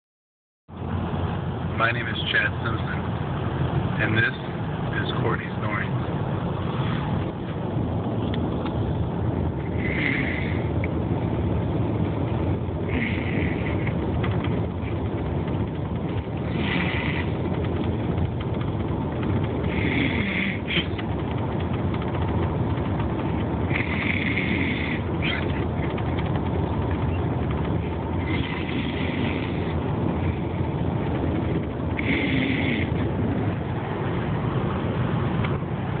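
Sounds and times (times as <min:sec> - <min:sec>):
steady low rumble: 0:00.7 - 0:36.0.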